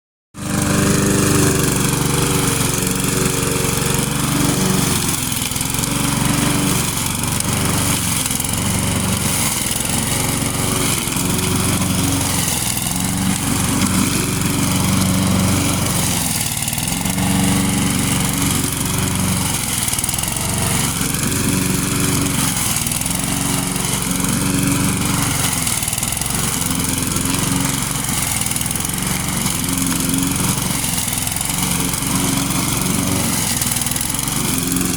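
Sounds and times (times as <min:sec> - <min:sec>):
lawn mower cutting grass: 0:00.3 - 0:34.9.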